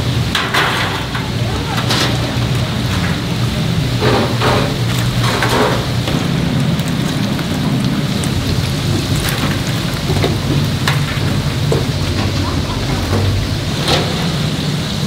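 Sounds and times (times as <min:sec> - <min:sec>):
low steady hum: 0:00.0 - 0:15.0
oil popping: 0:00.0 - 0:15.0
oil sizzling: 0:00.0 - 0:15.0.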